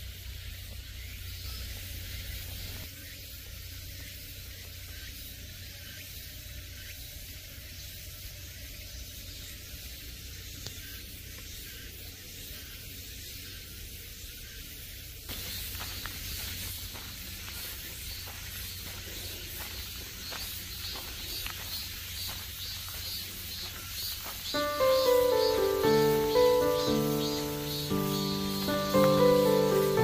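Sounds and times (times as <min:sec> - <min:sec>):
forest ambience hiss: 0:00.0 - 0:30.0
faint scattered ticks: 0:00.1 - 0:30.0.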